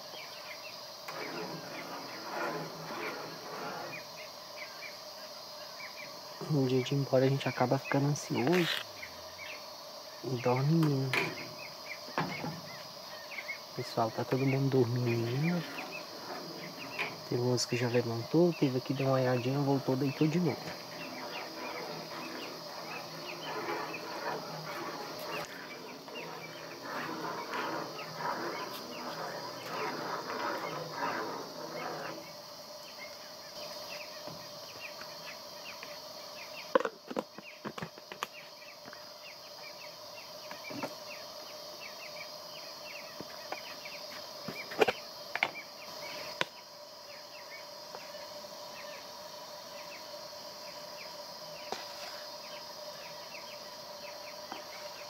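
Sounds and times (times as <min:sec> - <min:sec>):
crickets trilling: 0:00.0 - 0:55.0
insects chattering calls: 0:00.0 - 0:55.0.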